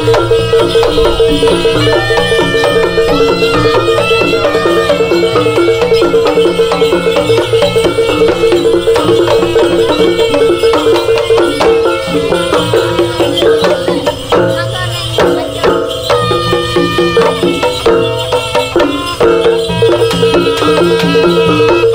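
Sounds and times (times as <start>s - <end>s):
folk melody instruments: 0.0s - 21.9s
percussion beat: 0.0s - 21.9s.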